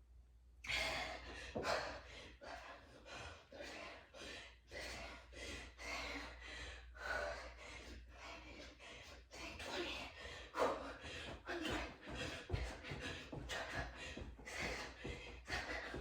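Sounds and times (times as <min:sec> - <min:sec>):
woman breathing hard: 0:00.6 - 0:16.0.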